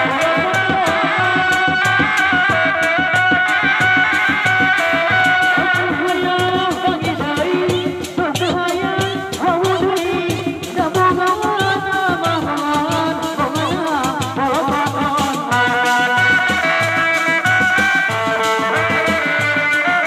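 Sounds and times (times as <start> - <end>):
frame drums beaten with sticks: 0.0 - 20.0.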